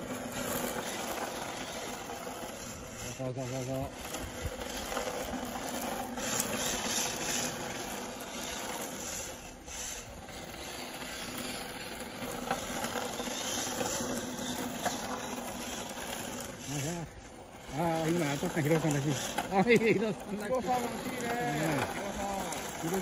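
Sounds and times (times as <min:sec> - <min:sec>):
small electric motor running: 0:00.0 - 0:23.0
tyres sliding on concrete: 0:00.0 - 0:23.0.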